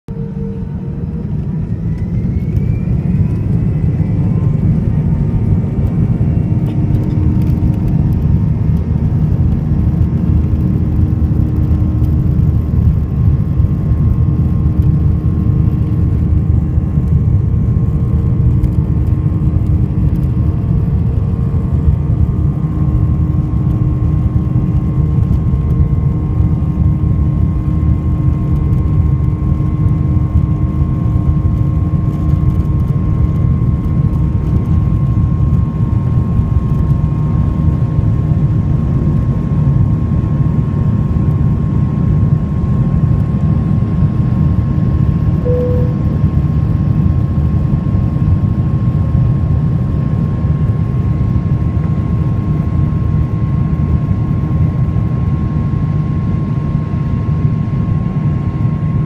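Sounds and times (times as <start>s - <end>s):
cabin roar and low rumble: 0.1s - 59.0s.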